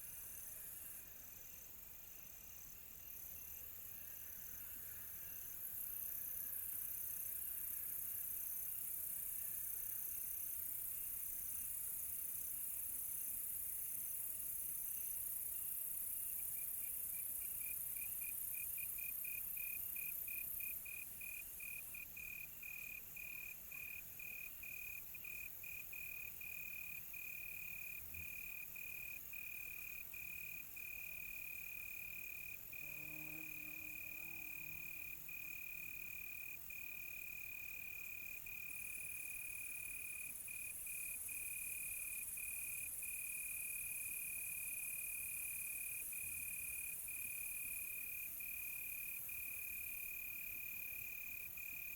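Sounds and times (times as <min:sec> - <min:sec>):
high insect hiss: 0:00.0 - 0:51.9.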